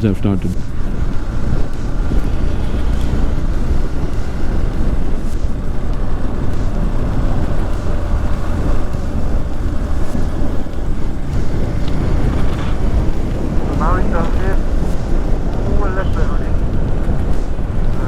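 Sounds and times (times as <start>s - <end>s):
motorcycle engine rumble: 0.0s - 18.0s
wind buffeting microphone: 0.0s - 18.0s.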